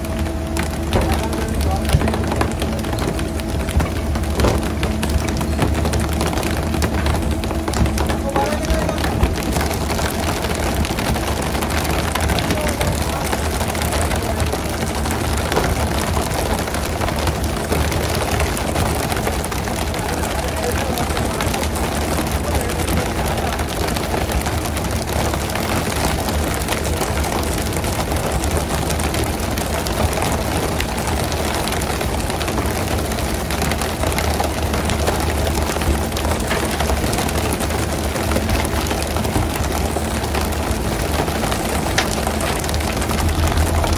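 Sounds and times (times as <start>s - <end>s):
boat engine droning: 0.0s - 26.5s, 27.1s - 43.9s.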